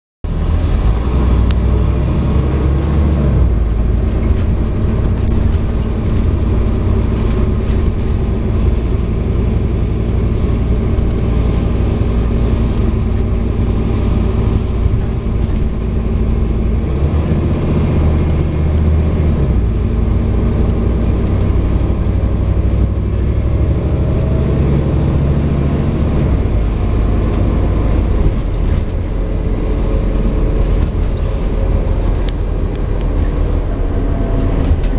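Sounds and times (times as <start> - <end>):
bus diesel engine running: 0.2 - 34.9
road noise: 0.2 - 34.9.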